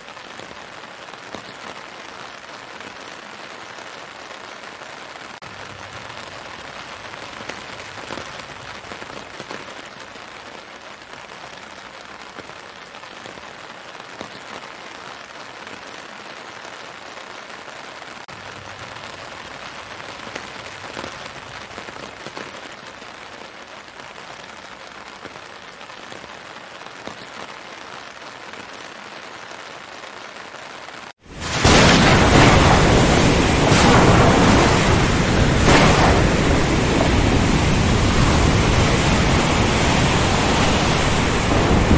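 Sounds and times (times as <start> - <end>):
rain pattering on leaves: 0.0 - 41.9.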